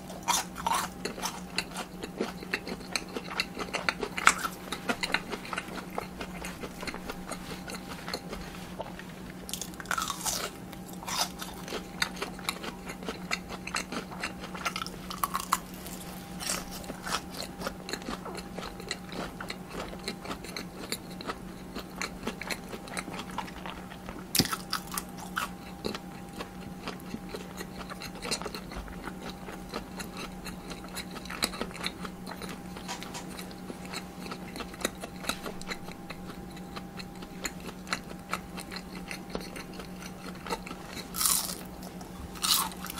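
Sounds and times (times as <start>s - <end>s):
person chewing crunchy food: 0.0s - 42.9s
steady low hum: 0.0s - 42.9s.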